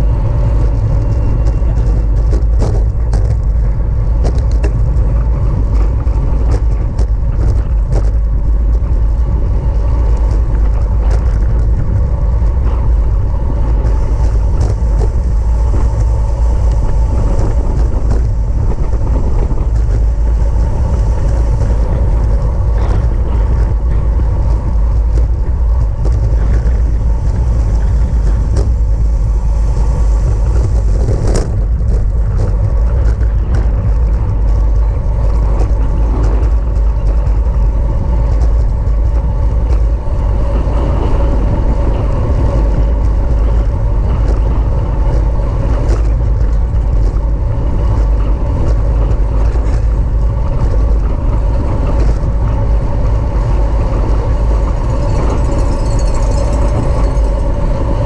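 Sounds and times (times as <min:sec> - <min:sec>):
bicycle road noise: 0:00.0 - 0:58.0
wind rushing over microphone: 0:00.0 - 0:58.0.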